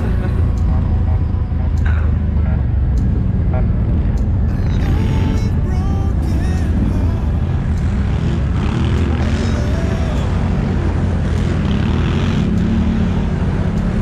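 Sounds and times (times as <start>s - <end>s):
quad bike engines droning: 0.0s - 14.0s.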